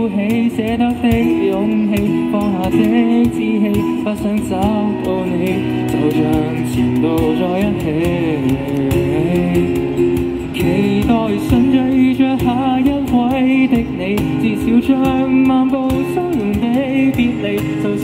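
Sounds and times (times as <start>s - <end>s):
cajon beats: 0.0s - 18.0s
man singing into a microphone: 0.0s - 18.0s
strummed acoustic guitar: 0.0s - 18.0s.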